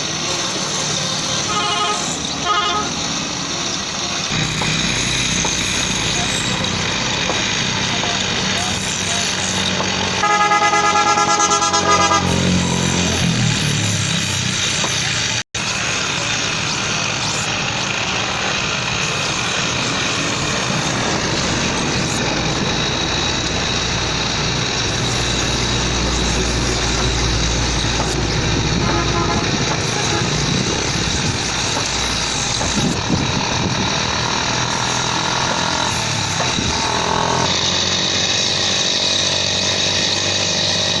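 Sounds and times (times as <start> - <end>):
sharpening wheel grinding: 0.0 - 41.0.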